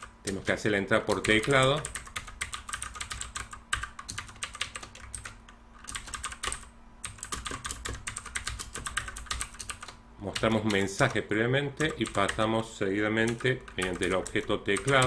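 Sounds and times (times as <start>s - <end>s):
computer keyboard typing: 0.0s - 11.2s, 11.8s - 15.0s.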